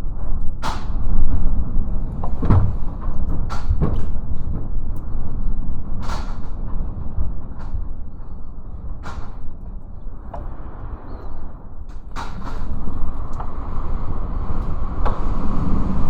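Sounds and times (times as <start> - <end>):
strong wind buffeting microphone: 0.0 - 16.0
sharp knocks and rattles: 0.2 - 16.0.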